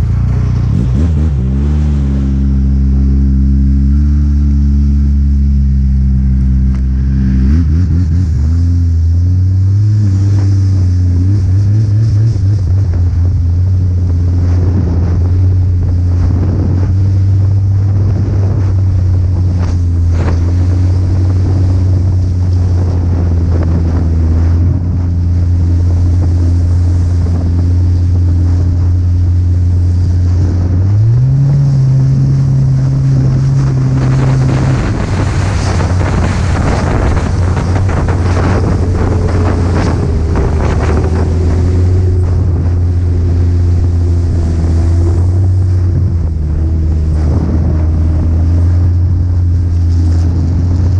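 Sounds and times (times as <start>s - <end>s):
snowmobile engine running: 0.0s - 50.9s
wind buffeting microphone: 0.0s - 50.9s.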